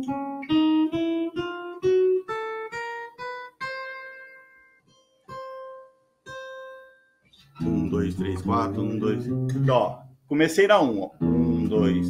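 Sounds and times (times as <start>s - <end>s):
acoustic guitar single notes: 0.0s - 10.3s, 11.1s - 12.0s.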